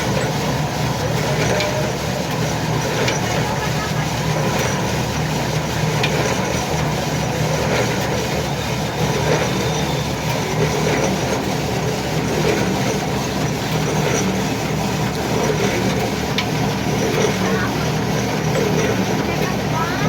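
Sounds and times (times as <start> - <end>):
machinery mechanical drone: 0.0 - 20.0.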